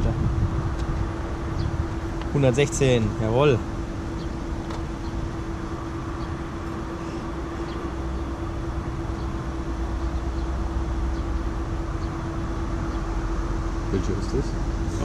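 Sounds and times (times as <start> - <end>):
cooling fan hum: 0.0 - 15.0.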